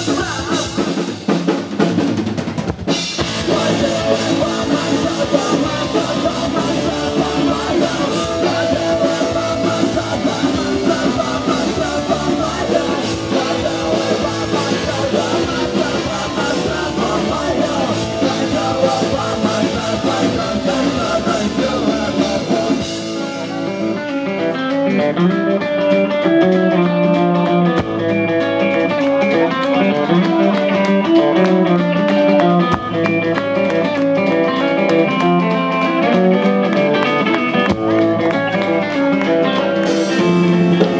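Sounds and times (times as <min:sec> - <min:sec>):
drum kit with cymbals: 0:00.0 - 0:38.0, 0:38.8 - 0:40.9
electric guitar: 0:00.0 - 0:40.9.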